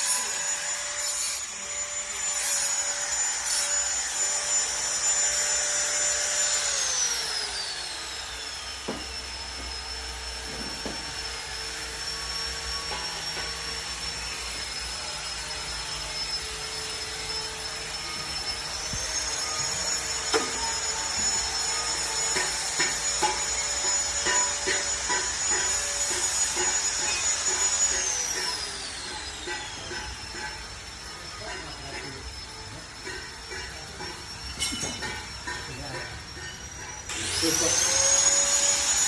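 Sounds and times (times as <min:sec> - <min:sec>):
power tool motor whining: 0:00.0 - 0:39.0.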